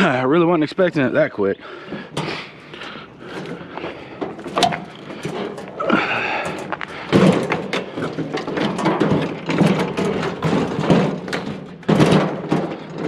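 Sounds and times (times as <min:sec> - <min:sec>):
metal grill rattling and clunking: 0:01.6 - 0:13.0.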